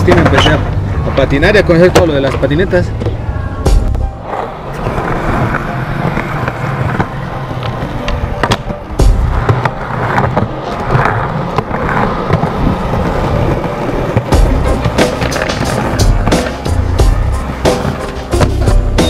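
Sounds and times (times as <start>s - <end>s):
skateboard clacks: 0.0s - 1.2s, 1.8s - 19.0s
skateboard wheels rolling on concrete: 0.0s - 19.0s.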